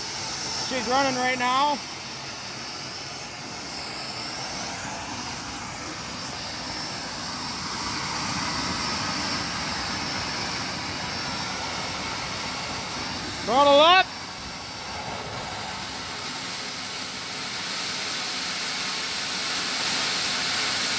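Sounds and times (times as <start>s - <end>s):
model jet turbine whining: 0.0s - 20.9s.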